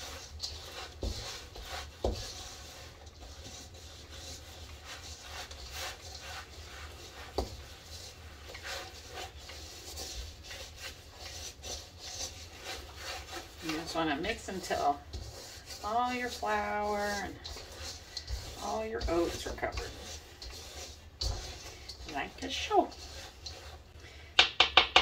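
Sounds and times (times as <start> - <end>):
spoon scraping in a metal bowl: 0.0 - 24.0.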